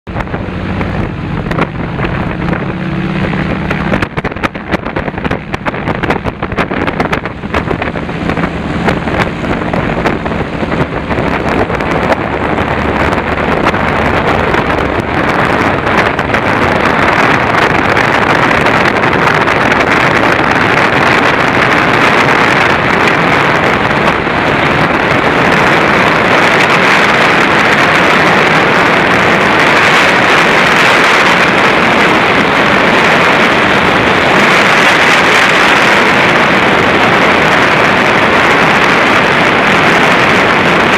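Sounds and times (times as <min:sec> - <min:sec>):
propeller plane engine at takeoff: 0:00.0 - 0:40.9.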